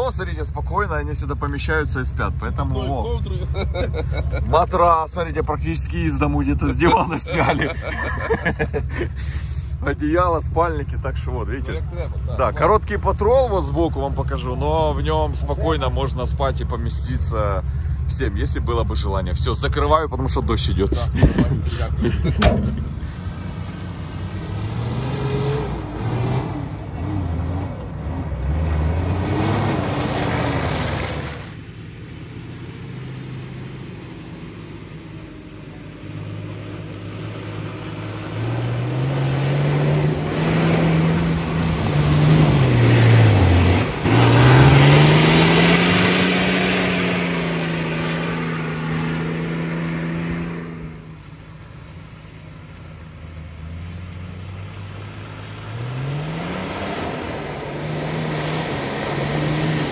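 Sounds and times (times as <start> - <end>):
engine revving: 0.8 - 31.6, 35.8 - 51.1, 53.6 - 59.9.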